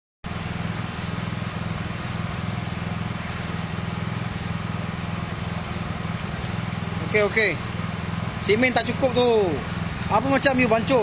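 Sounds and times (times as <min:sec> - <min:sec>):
concrete mixer motor humming: 0:00.3 - 0:11.0.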